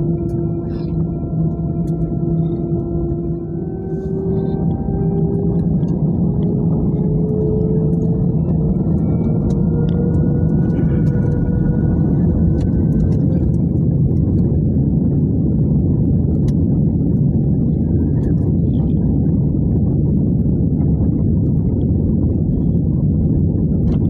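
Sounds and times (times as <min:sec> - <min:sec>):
airplane engines rumbling: 0:00.0 - 0:24.0.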